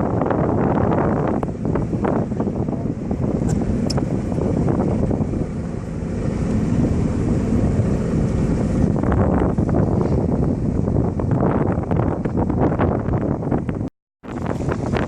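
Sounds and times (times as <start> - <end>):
jet ski engine running: 0.0 - 15.0
wind buffeting microphone: 0.0 - 15.0.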